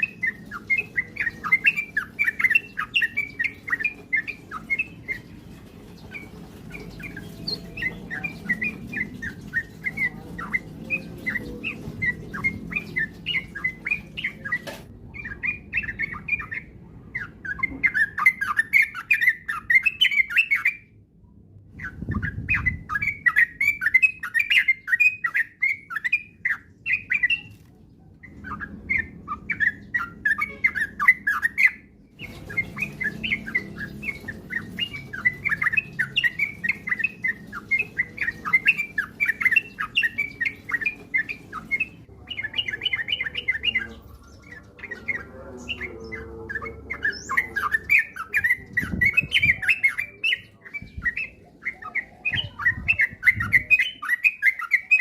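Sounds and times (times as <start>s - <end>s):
bulbul singing: 0.0s - 21.0s, 21.7s - 55.0s.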